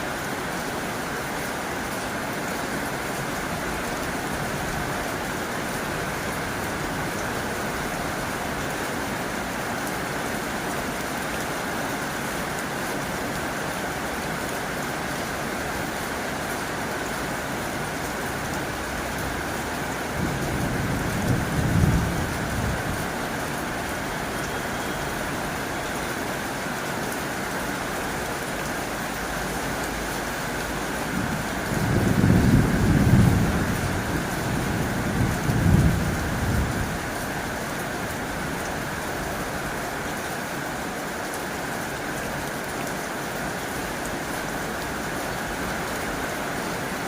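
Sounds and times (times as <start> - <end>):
heavy rain on a tin roof: 0.0 - 47.0.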